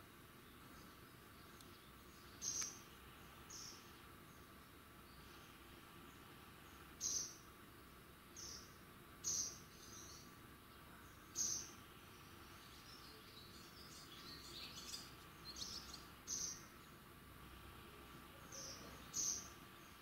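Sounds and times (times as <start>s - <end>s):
faint outdoor background: 0.0s - 20.0s
songbird calls: 0.4s - 17.1s, 18.0s - 20.0s
soft bird chirps: 0.4s - 17.2s, 17.8s - 20.0s.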